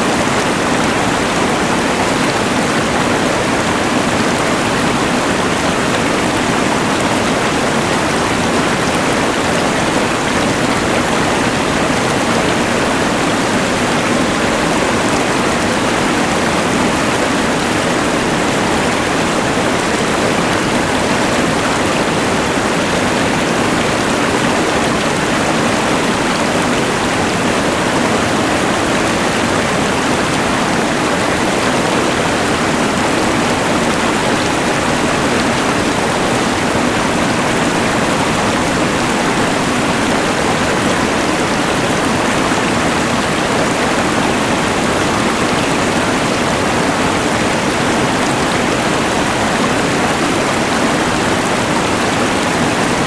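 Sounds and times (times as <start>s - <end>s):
mountain river rushing: 0.0s - 53.0s.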